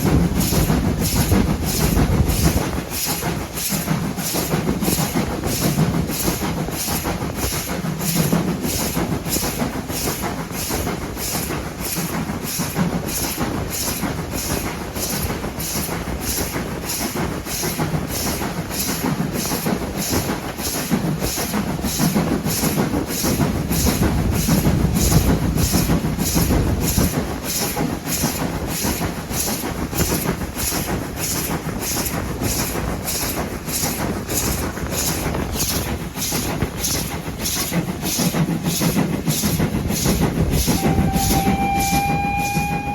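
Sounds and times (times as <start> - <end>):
steady train rumble: 0.0 - 42.9
train running with rhythmic beat: 0.0 - 42.9.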